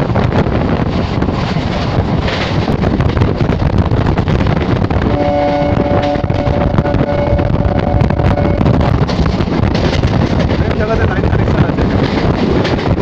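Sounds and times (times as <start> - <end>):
train wheels rumbling on rails: 0.0 - 13.0
wind rush on microphone: 0.0 - 13.0.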